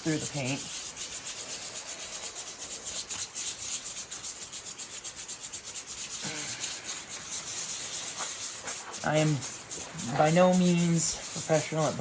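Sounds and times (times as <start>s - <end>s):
sandpaper rubbing on metal: 0.0s - 12.0s.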